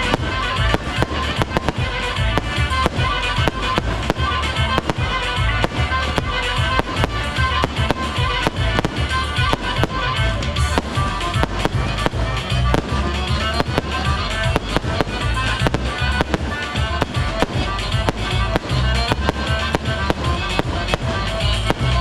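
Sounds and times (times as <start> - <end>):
fireworks banging: 0.0 - 22.0
loud music with heavy bass: 0.0 - 22.0.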